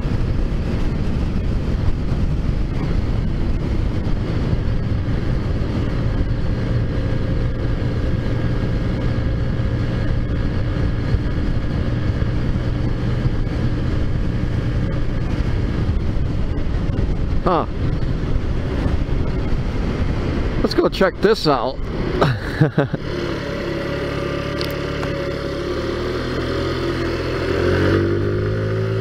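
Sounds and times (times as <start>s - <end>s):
scooter engine running steadily: 0.0s - 29.0s.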